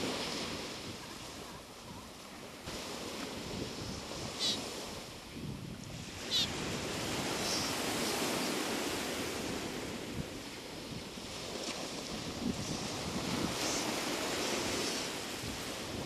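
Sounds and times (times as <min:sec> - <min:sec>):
surf: 0:00.0 - 0:16.0
wind noise on microphone: 0:00.0 - 0:16.0.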